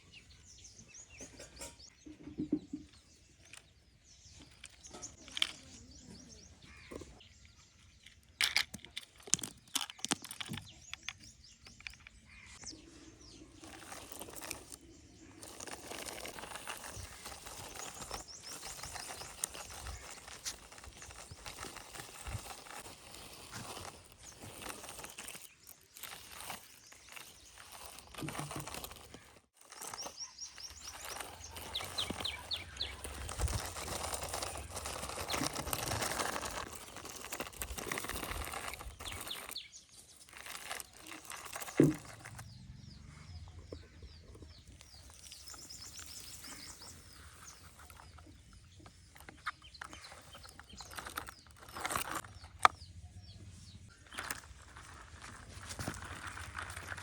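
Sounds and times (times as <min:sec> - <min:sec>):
small birds chirping: 0:00.0 - 0:57.0
rustling: 0:08.0 - 0:42.9, 0:43.7 - 0:52.8, 0:53.8 - 0:57.0.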